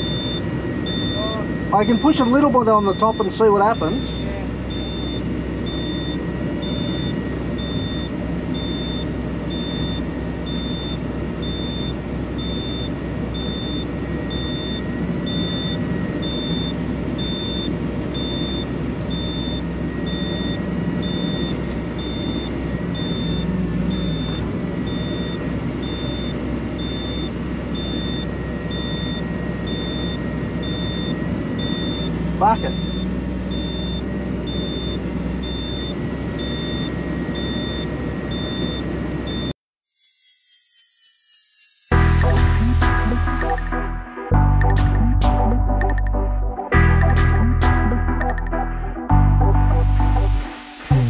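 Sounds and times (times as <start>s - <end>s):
excavator engine and hydraulics: 0.0s - 39.5s, 41.5s - 51.0s
high electronic warning beep: 0.0s - 39.6s, 40.9s - 51.0s.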